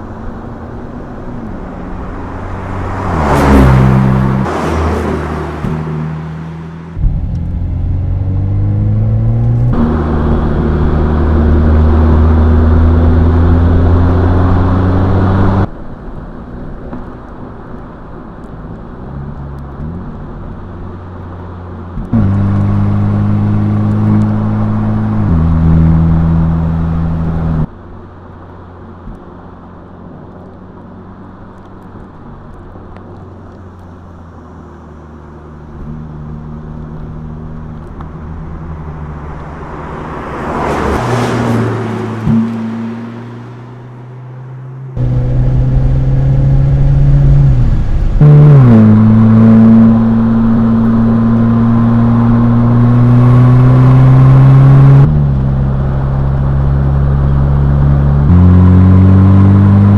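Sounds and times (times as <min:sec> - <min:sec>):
car engine accelerating: 0:00.0 - 0:27.8, 0:29.0 - 0:59.9.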